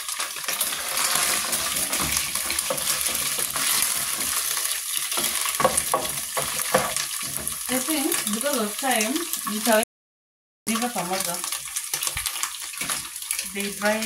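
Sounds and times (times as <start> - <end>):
beef sizzling in a pot: 0.0 - 9.8, 10.7 - 14.0.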